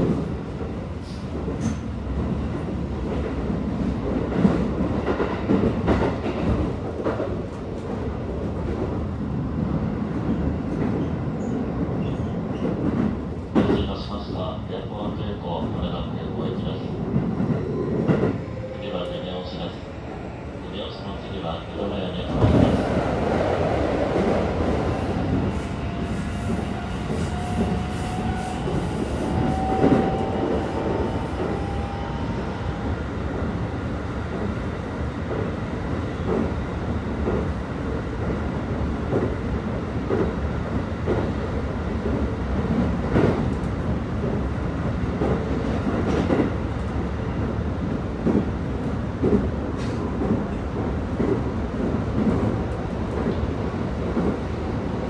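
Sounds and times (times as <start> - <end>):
train rolling noise: 0.0 - 55.0.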